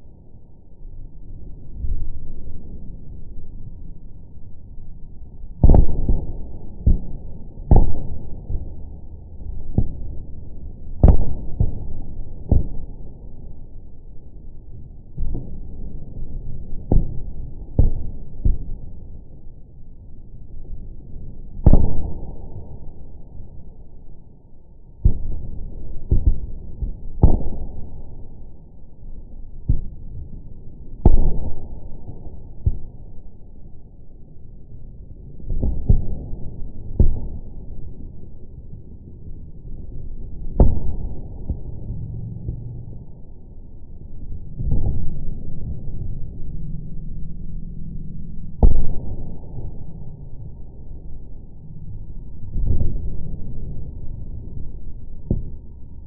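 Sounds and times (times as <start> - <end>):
low rumble: 0.0 - 56.0
slowed-down fireworks booms: 5.4 - 56.0.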